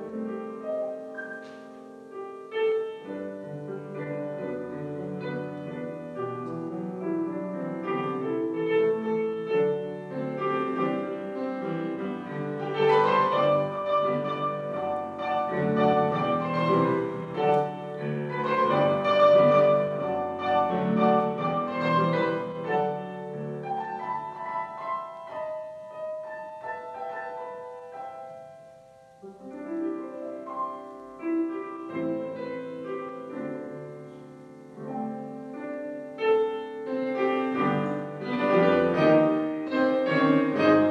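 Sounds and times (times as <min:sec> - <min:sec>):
grand piano playing: 0:00.0 - 0:40.9.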